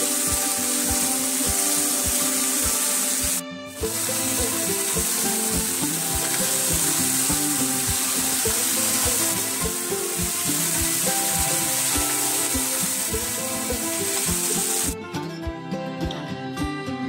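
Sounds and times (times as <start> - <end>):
greens sizzling in hot oil: 0.0 - 15.0
background music with steady beat: 0.0 - 17.0.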